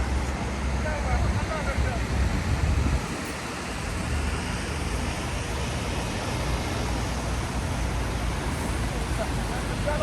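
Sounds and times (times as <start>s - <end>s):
traffic on wet street: 0.0s - 10.0s
rain hiss: 1.8s - 10.0s.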